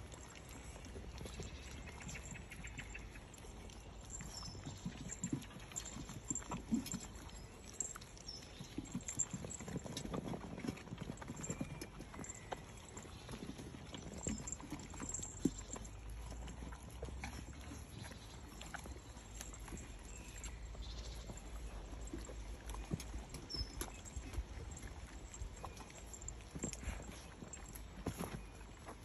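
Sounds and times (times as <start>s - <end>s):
dogs chewing and licking: 0.0s - 29.0s.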